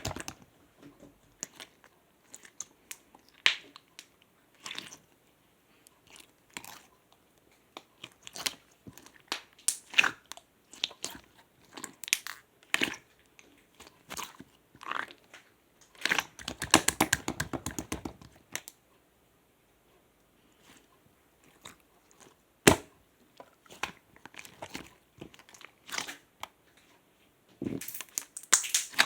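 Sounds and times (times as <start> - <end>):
slime squishing with sticky pops: 0.0 - 0.5, 1.3 - 5.2, 6.0 - 18.8, 20.6 - 26.9, 27.6 - 29.0.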